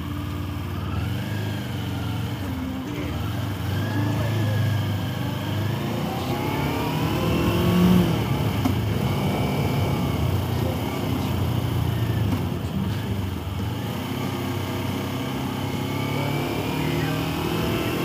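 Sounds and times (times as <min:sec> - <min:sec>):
motorcycle engine revving: 0:00.0 - 0:18.0
rush of riding noise: 0:00.0 - 0:18.0.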